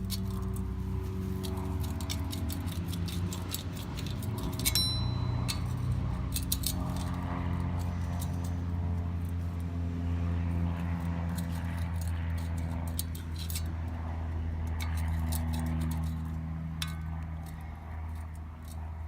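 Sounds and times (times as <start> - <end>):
metal tools clinking and rattling: 0.0 - 9.6, 10.8 - 13.9, 14.6 - 18.8
steady low hum: 0.0 - 19.0.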